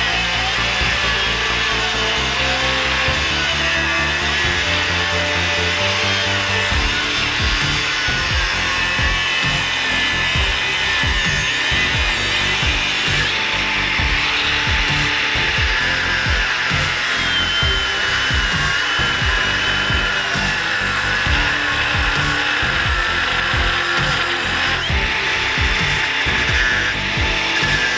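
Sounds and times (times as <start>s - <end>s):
angle grinder grinding metal: 0.0s - 27.9s
background music with beat: 0.0s - 27.9s.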